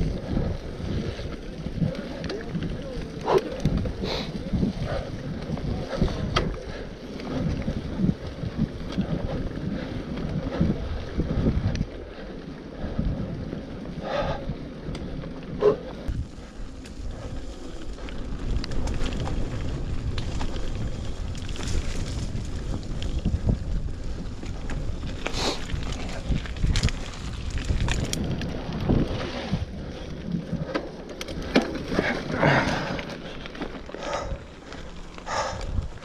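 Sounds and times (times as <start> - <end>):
bike tyres rumbling: 0.0 - 36.0
wind buffeting microphone: 0.0 - 36.0.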